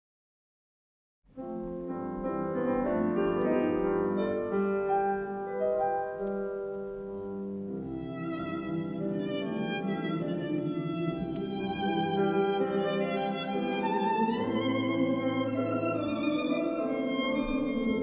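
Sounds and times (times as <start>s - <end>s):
piano: 1.3s - 18.0s
bowed string melody: 1.4s - 18.0s.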